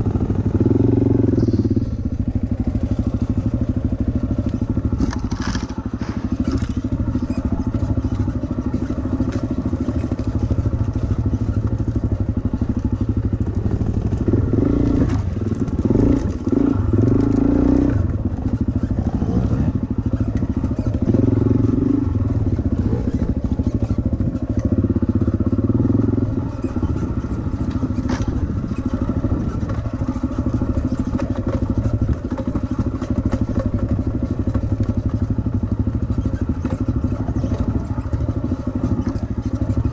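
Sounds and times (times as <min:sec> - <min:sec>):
bike rattling over bumps: 0:00.0 - 0:39.9
dirt bike engine revving: 0:00.0 - 0:39.9.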